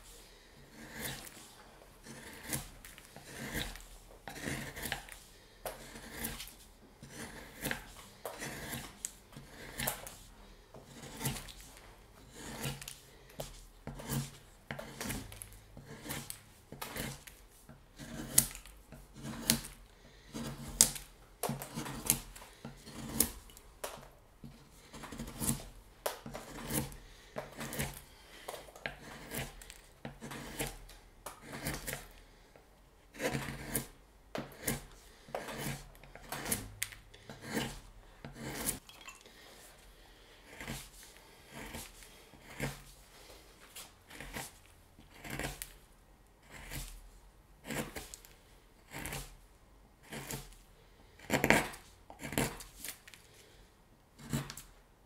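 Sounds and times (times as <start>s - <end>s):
knife slicing and scraping wood: 0.0s - 32.2s, 33.1s - 38.9s, 40.2s - 49.4s, 50.0s - 50.6s, 51.2s - 53.6s, 54.2s - 54.8s.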